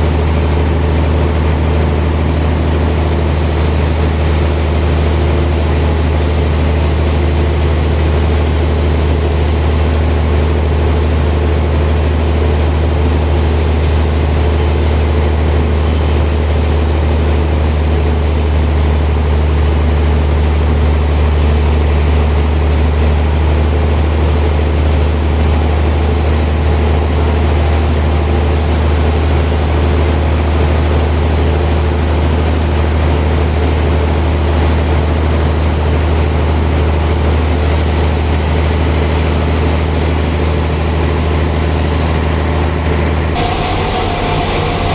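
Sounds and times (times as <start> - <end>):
sawmill machinery humming: 0.0 - 33.8, 35.2 - 44.9.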